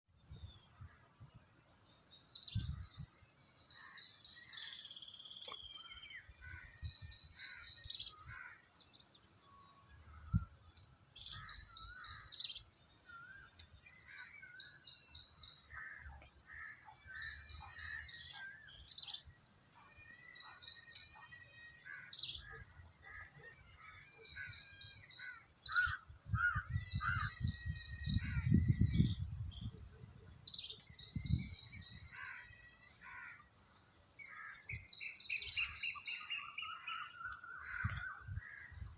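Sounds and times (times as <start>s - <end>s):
birds singing and chirping: 0.2s - 38.9s.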